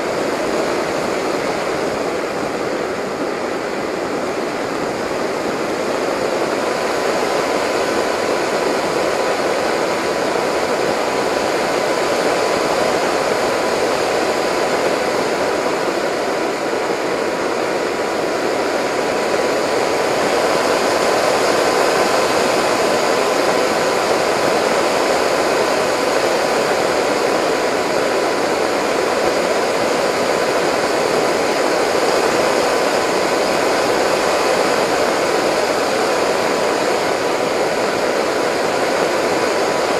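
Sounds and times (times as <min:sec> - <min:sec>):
faint steady whine: 0:00.0 - 0:39.9
rush of airflow: 0:00.0 - 0:39.9.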